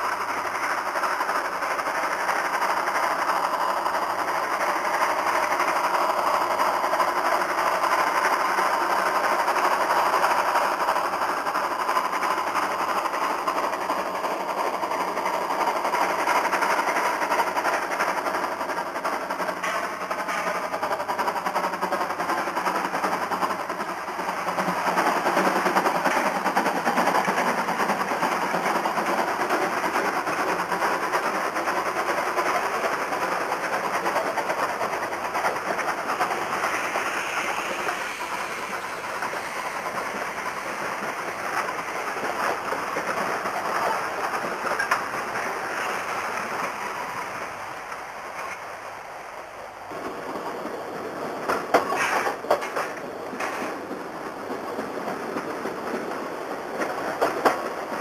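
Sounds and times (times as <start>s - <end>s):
steam locomotive exhaust beats: 0.0s - 57.9s.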